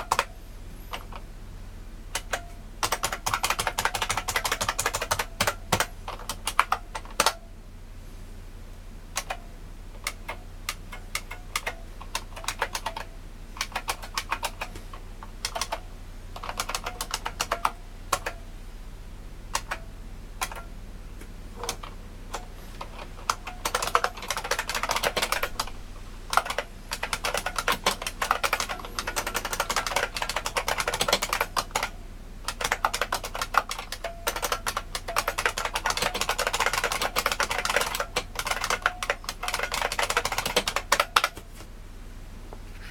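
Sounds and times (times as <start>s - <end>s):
keyboard typing with loud clicks: 0.0s - 0.3s, 2.1s - 7.4s, 9.2s - 9.4s, 10.0s - 18.4s, 19.5s - 20.7s, 21.6s - 41.4s.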